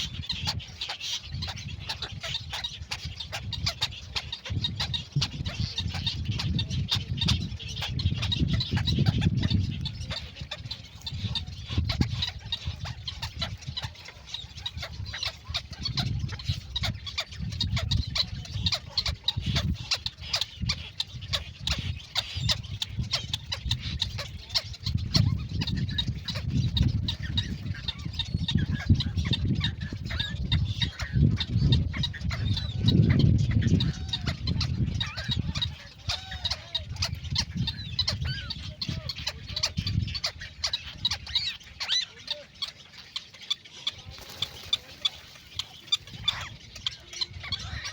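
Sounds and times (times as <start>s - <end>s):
birds clucking and calling: 0.0s - 47.9s.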